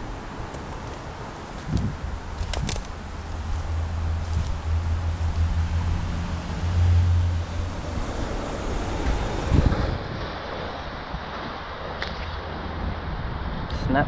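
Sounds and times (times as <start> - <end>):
steady low rumbling: 0.0 - 13.7.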